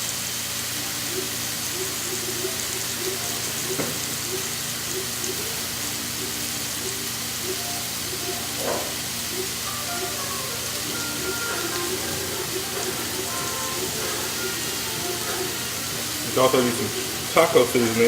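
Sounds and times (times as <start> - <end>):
vegetables sizzling on a grill: 0.0 - 18.0.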